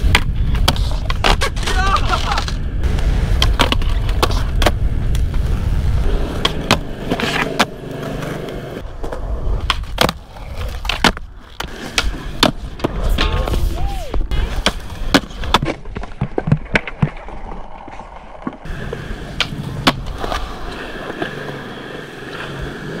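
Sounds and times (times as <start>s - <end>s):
skateboard clacking on ground: 0.0s - 2.7s, 6.3s - 23.0s
skateboard wheels rolling on concrete: 0.0s - 23.0s.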